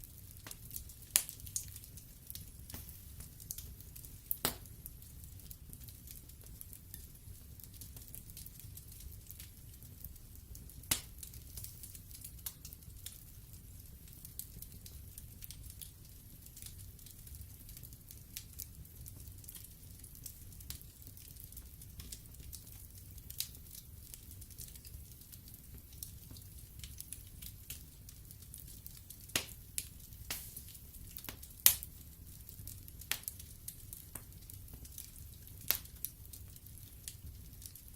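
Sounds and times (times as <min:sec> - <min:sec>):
log fire crackling: 0:00.0 - 0:37.9
low rumble of burning: 0:00.0 - 0:37.9.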